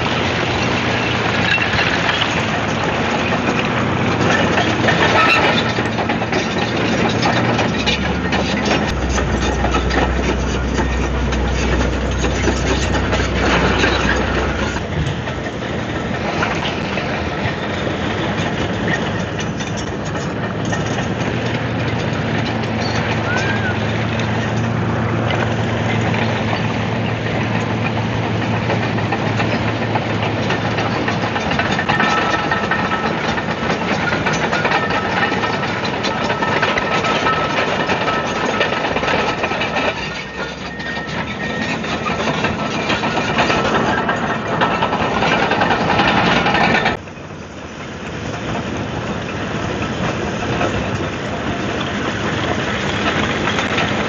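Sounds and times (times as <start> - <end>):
bulldozer diesel engine: 0.0 - 54.0
steel tracks clattering: 0.0 - 54.0.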